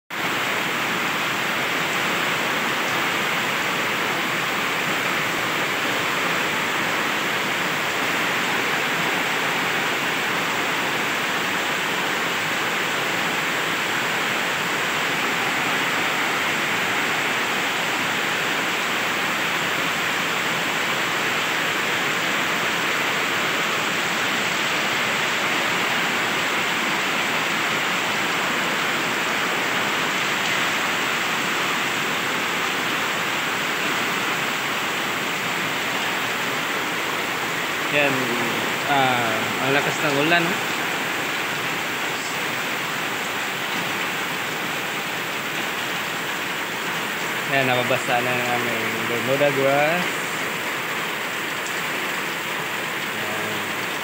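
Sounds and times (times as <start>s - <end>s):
heavy rain pouring: 0.1s - 54.0s.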